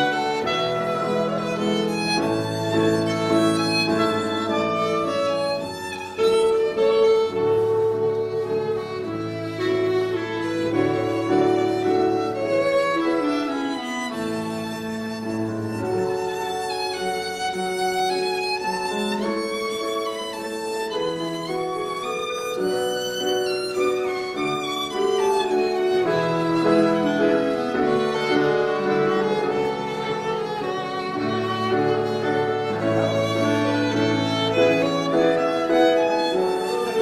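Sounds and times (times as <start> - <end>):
fiddle dance music: 0.0 - 37.0.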